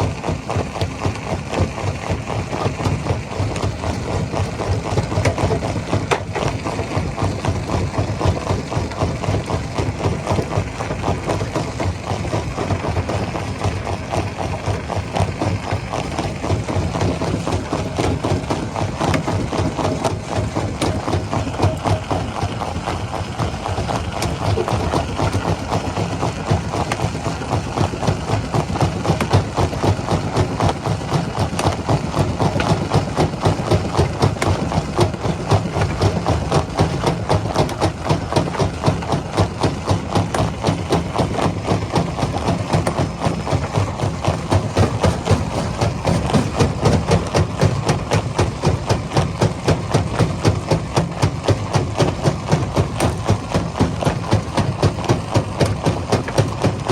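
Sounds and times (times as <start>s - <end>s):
rock-crushing machinery engine drone: 0.0s - 56.9s
rhythmic pounding: 0.4s - 56.9s.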